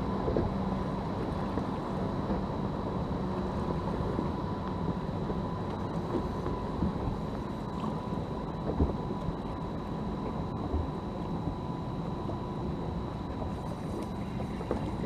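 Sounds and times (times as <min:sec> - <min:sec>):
low hum: 0:00.0 - 0:15.0
water noise: 0:00.0 - 0:15.0.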